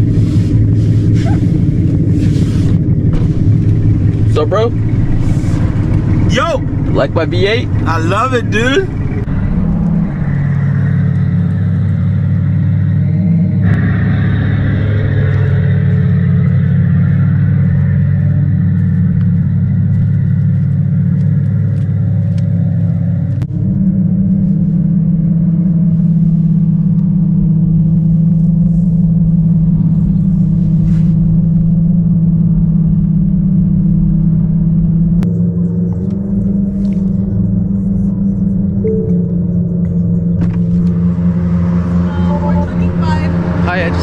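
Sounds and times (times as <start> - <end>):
synthesized engine rumble from speaker: 0.0 - 44.0.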